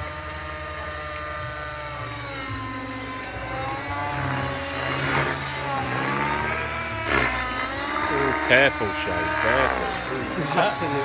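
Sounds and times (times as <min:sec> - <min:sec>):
model helicopter rotor whine: 0:00.0 - 0:11.0.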